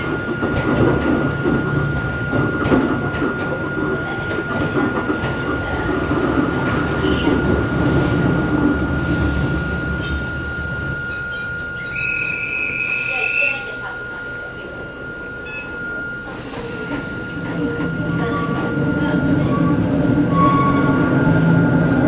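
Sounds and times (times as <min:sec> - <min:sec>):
train wheels rumbling: 0:00.0 - 0:22.0
wheels squealing on rails: 0:00.1 - 0:22.0.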